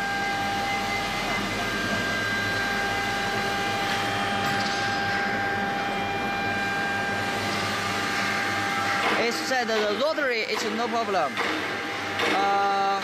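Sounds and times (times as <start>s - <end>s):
cnc engraving machine whining: 0.0s - 13.0s.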